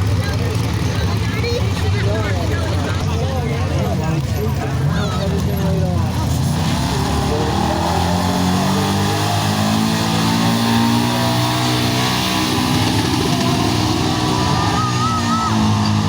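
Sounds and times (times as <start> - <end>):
truck engine running hard: 0.0 - 16.0.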